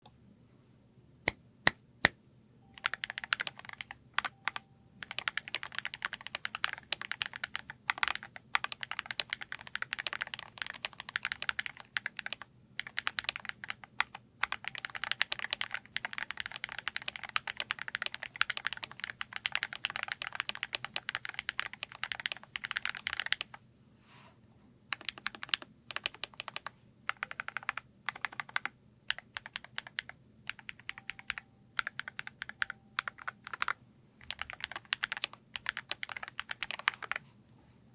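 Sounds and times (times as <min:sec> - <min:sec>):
fast keyboard typing: 0:02.7 - 0:23.6, 0:24.9 - 0:37.2.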